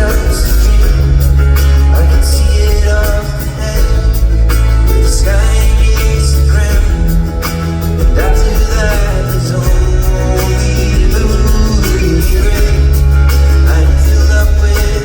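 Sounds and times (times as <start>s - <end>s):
heavy held bass: 0.0s - 15.0s
live concert music: 0.0s - 15.0s
wordless vocal lines: 0.0s - 15.0s.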